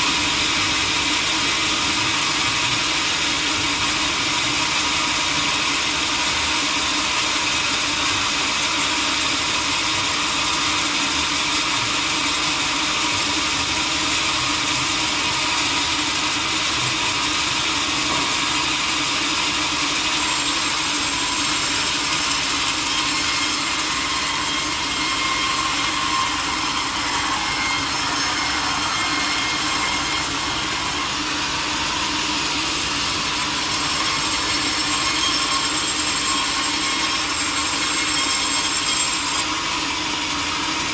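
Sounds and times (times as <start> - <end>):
saw cutting through log: 0.0 - 40.9.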